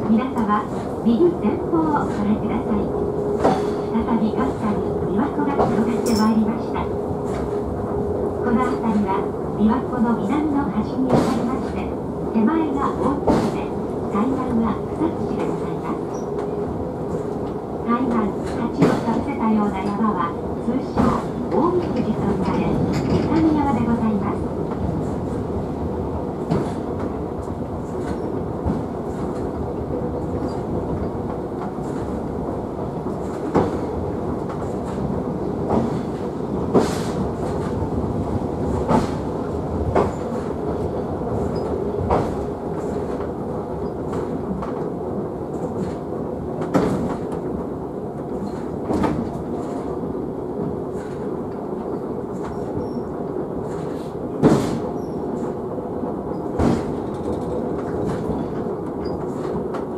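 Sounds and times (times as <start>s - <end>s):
rail car rolling rumble: 0.0s - 59.9s
rail clicks and clacks: 0.0s - 59.9s.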